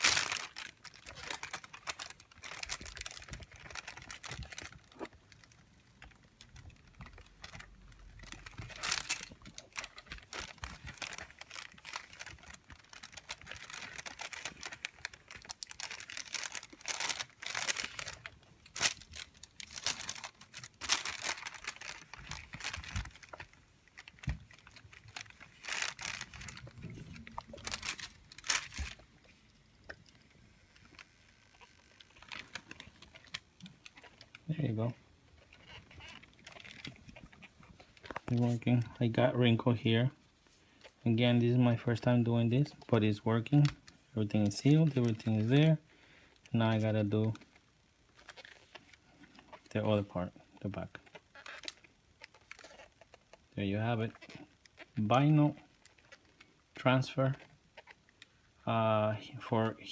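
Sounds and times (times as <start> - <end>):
wax paper crinkling: 0.0 - 58.6.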